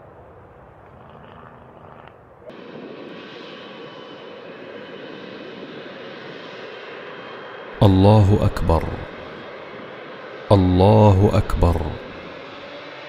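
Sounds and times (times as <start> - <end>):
jet engines rushing: 2.4 - 13.0.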